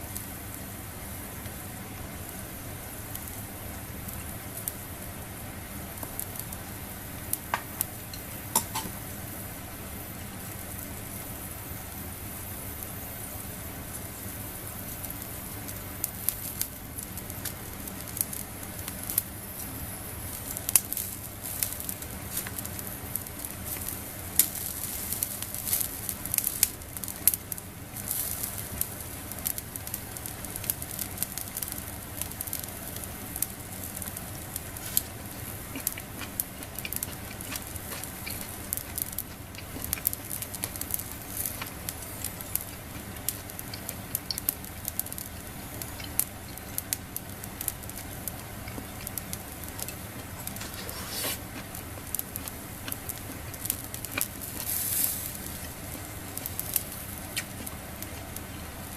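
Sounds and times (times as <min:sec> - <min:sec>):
fire crackling and popping: 0:00.0 - 0:58.9
food sizzling on a grill: 0:00.0 - 0:58.9.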